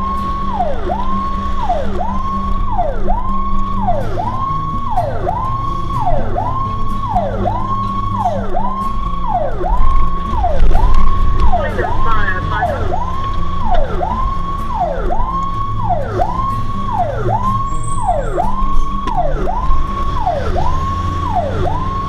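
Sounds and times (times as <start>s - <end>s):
fire engine siren wailing: 0.0s - 22.0s
truck engine rumble: 0.0s - 22.0s
fast warbling siren tone: 4.0s - 22.0s.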